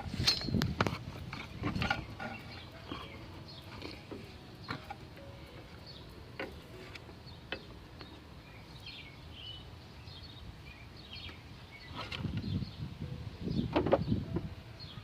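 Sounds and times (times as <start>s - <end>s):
small birds chirping: 1.3s - 15.0s.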